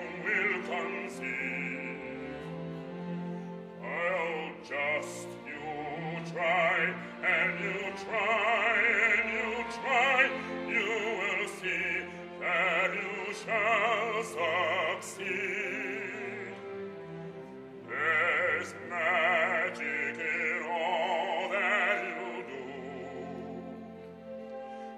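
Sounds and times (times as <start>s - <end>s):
operatic singing with vibrato: 0.0s - 24.9s.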